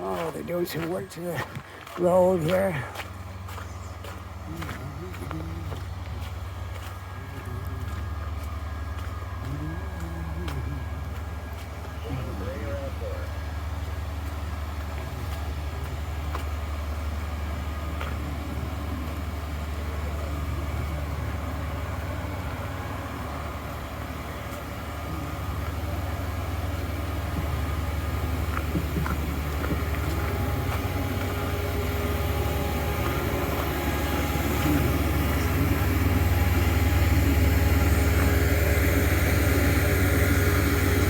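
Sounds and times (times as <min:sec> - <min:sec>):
machinery engine humming: 0:00.0 - 0:41.0.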